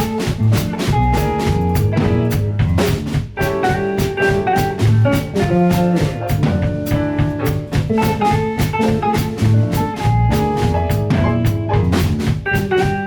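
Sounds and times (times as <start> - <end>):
drum kit beat: 0.0 - 13.0
instrumental jazz band: 0.0 - 13.0.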